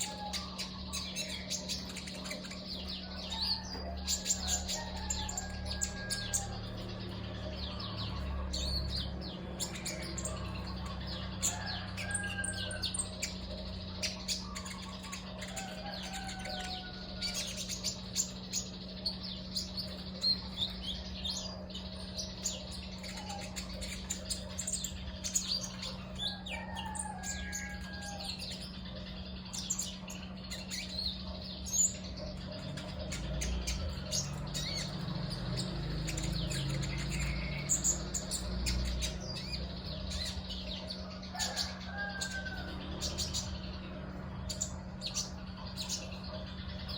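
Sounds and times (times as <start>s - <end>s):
songbird chirping: 0.0s - 46.9s
steady low hum: 0.0s - 46.9s.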